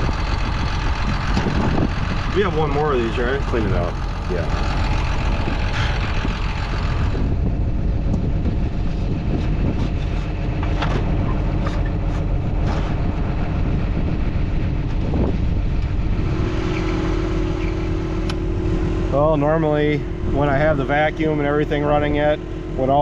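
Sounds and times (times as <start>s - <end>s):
steady hum: 0.0s - 23.0s
tractor engine idling: 0.0s - 23.0s.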